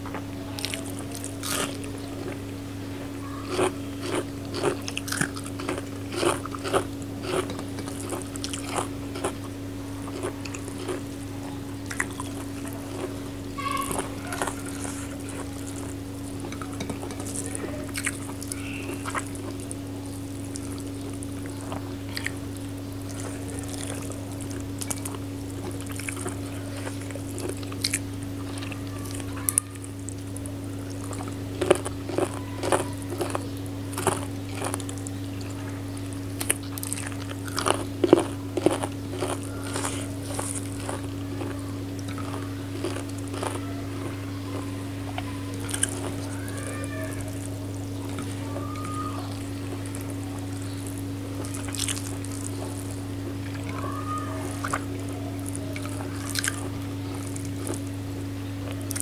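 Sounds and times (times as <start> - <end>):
steady low hum: 0.0 - 59.0
wet chewing: 0.0 - 59.0.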